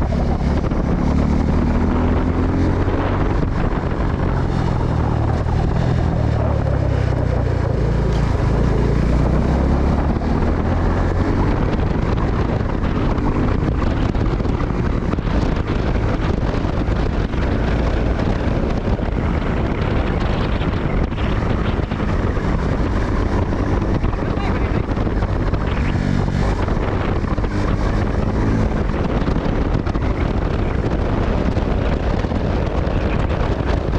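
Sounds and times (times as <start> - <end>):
motorcycle engine running: 0.0 - 33.9
wind rushing over microphone: 0.0 - 33.9.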